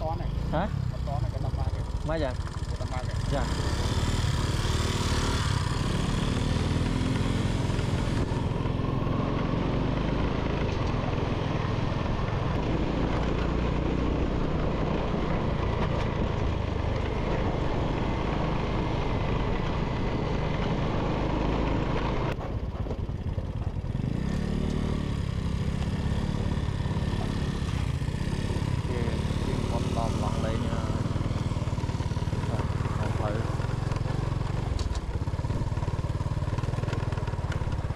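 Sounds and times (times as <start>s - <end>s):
vehicle engine and road rumble: 0.0s - 37.9s.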